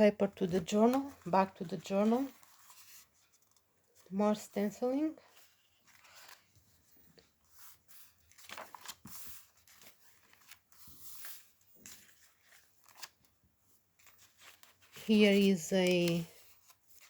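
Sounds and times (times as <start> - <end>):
paper pages rustling: 0.3 - 17.0.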